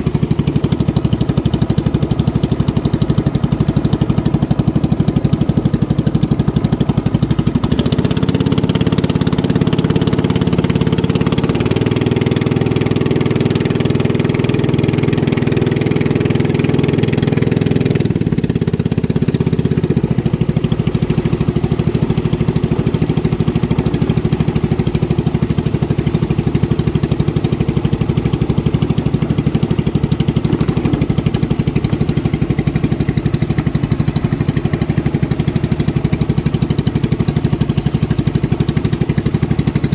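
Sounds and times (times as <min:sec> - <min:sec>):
motorboat engines running: 0:00.0 - 0:39.9.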